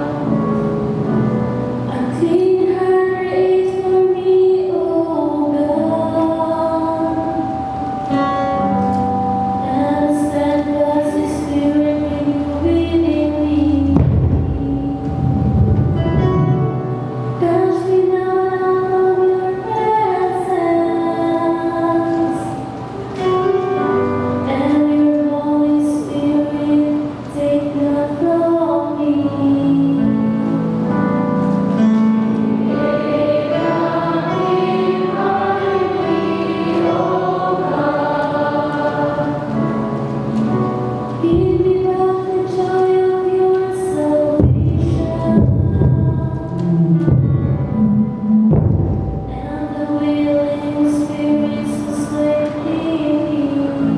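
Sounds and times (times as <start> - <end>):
choir singing: 0.0 - 31.1, 32.2 - 53.9.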